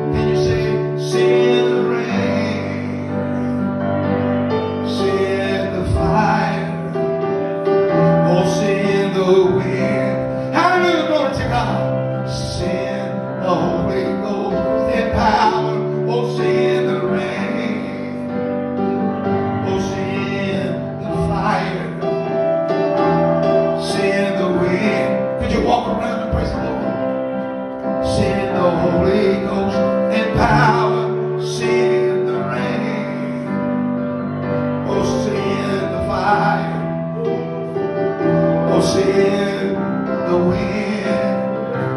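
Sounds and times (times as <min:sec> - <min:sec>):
keyboard playing held chords: 0:00.0 - 0:41.9
man singing into microphone: 0:00.0 - 0:41.9.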